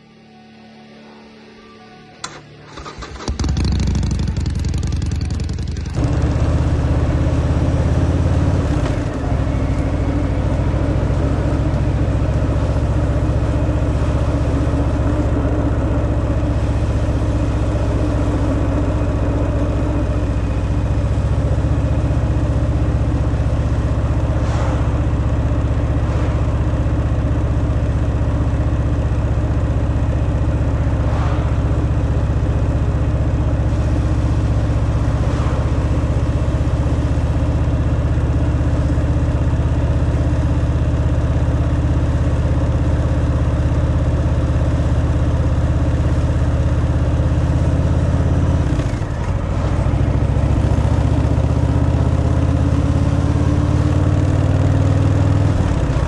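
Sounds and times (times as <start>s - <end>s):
motorcycle engine idling: 2.3s - 56.0s.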